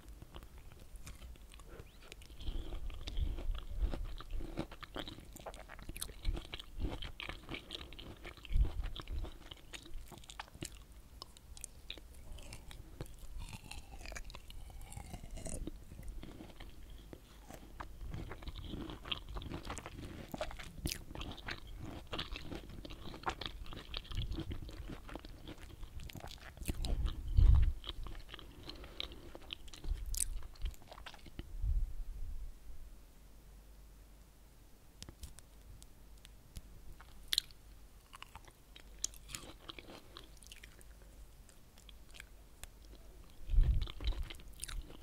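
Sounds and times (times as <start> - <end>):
crunching chewing: 0.0 - 31.5, 37.0 - 45.0.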